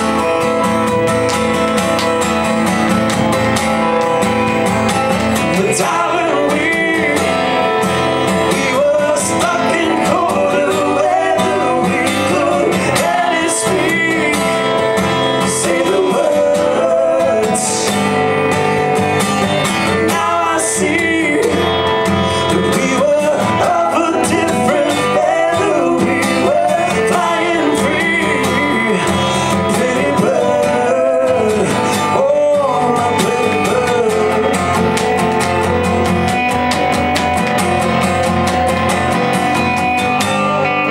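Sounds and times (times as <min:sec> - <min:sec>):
guitar strumming: 0:00.0 - 0:40.9.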